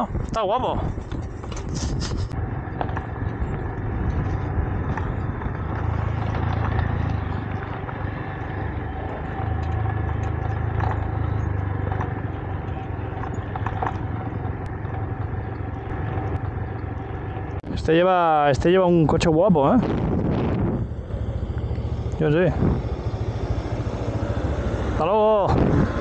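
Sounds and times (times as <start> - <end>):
motorcycle engine running: 0.0 - 26.0
stones ticking under tyres: 0.1 - 1.7, 2.3 - 26.0.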